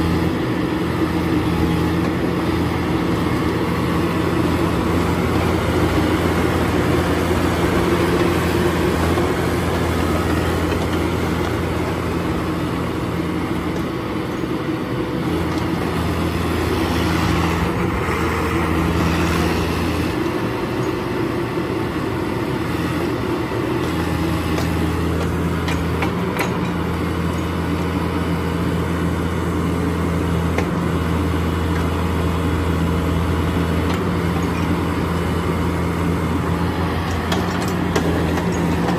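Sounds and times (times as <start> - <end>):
diesel excavator engine running: 0.0 - 38.9.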